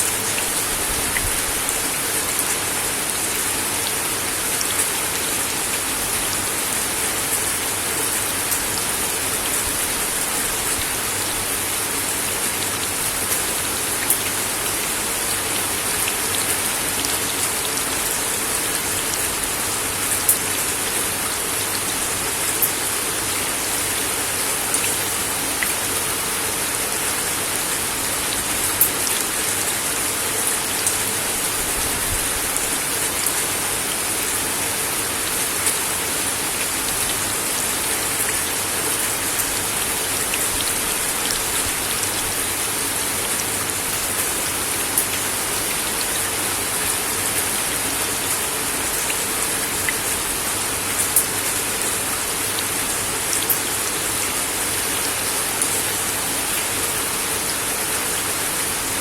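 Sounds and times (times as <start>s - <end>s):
rain on a wooden deck: 0.0s - 59.0s.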